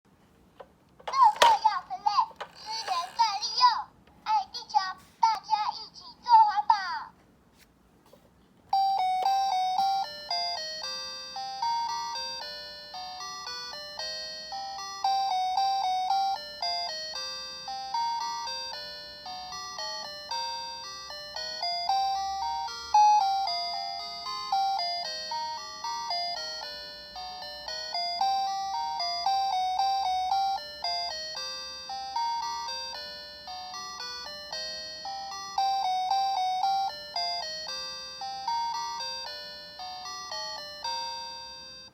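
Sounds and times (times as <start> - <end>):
toy electronic chime melody: 1.0 - 1.8, 8.7 - 41.9.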